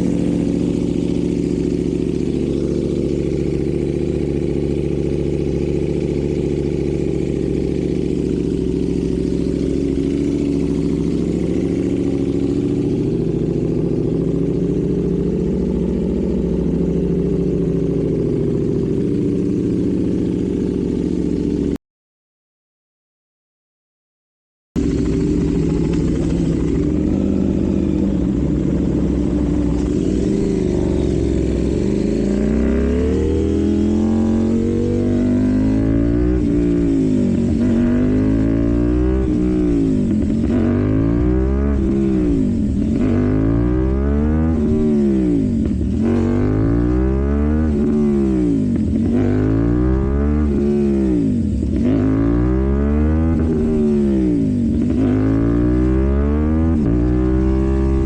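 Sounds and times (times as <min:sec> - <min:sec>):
motorcycle engine revving: 0:00.0 - 0:21.8, 0:24.8 - 0:58.0.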